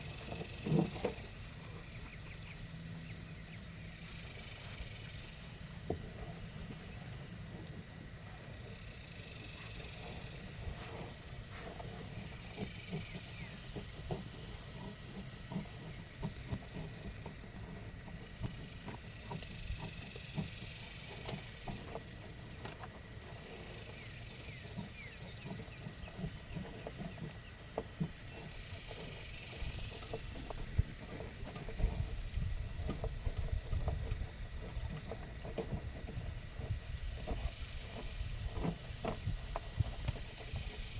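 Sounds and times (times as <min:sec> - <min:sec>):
pigs grunting and snuffling: 0:00.0 - 0:40.9.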